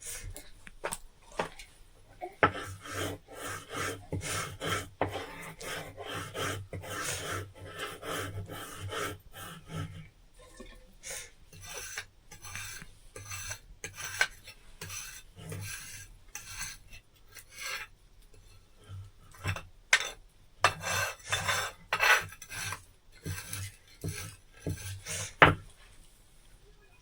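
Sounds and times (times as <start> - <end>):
rasping scrapes: 2.4 - 10.1, 11.5 - 25.7.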